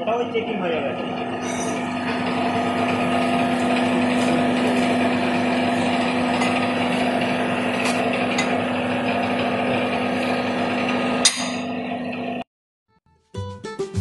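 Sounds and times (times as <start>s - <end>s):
workshop machinery humming: 0.0s - 12.5s.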